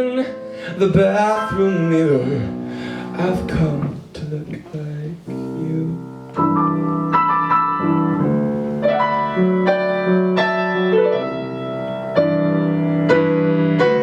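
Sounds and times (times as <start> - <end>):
piano playing chords and melody: 0.0 - 14.0.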